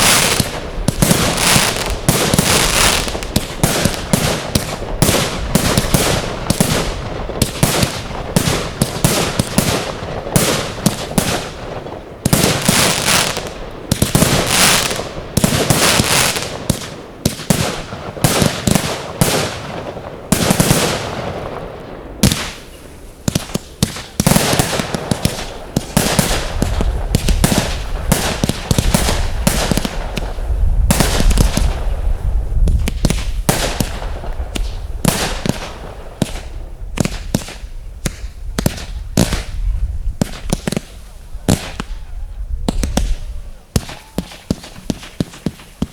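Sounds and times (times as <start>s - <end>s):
fireworks bursting and crackling: 0.0s - 45.9s
hissing firework trails: 0.0s - 45.9s.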